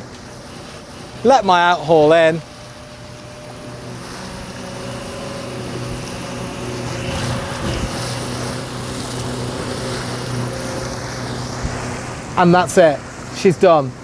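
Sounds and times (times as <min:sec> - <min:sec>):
furling gear and winch humming: 0:00.0 - 0:14.0
water noise: 0:00.0 - 0:14.0
wind: 0:00.0 - 0:14.0.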